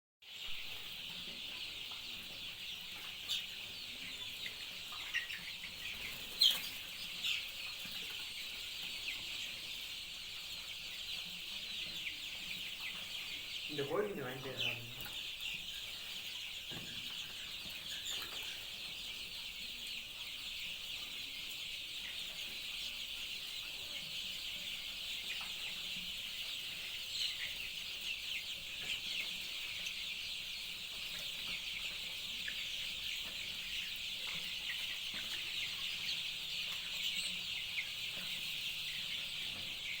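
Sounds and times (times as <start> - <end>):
chicks peeping: 0.3 - 40.0.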